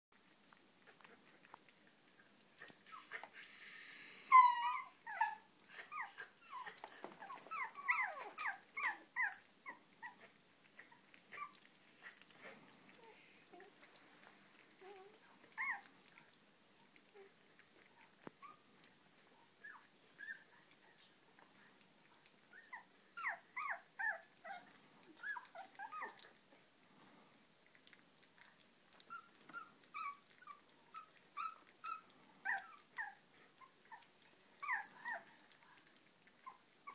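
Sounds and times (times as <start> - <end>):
puppies whining: 0.8 - 26.4, 27.7 - 36.9.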